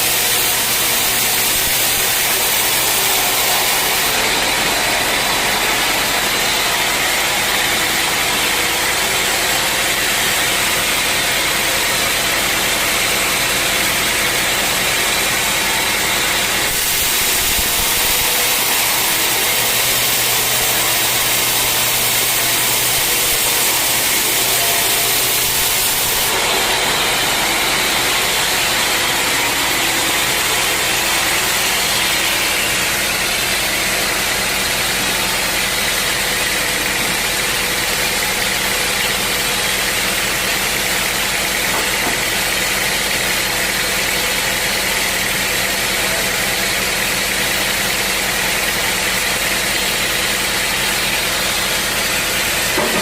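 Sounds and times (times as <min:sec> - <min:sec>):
sawmill saw cutting log: 0:00.0 - 0:53.0.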